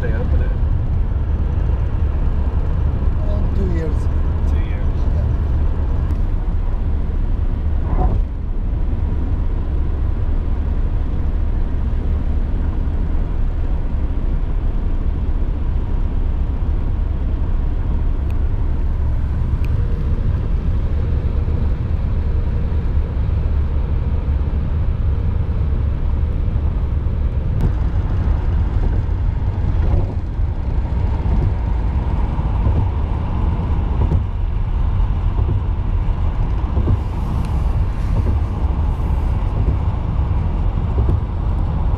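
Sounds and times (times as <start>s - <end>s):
car road noise: 0.0s - 41.9s.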